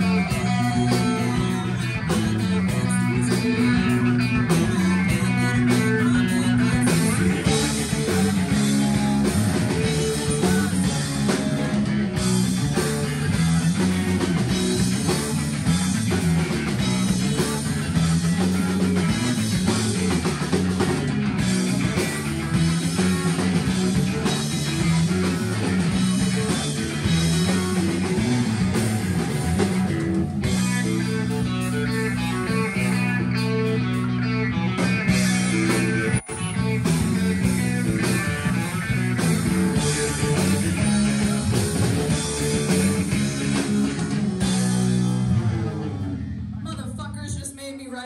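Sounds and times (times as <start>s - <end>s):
rock band playing: 0.0s - 47.6s.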